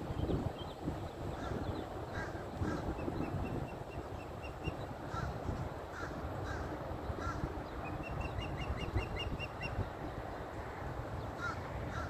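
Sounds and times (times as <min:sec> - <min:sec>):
birds chirping: 0:00.1 - 0:10.6.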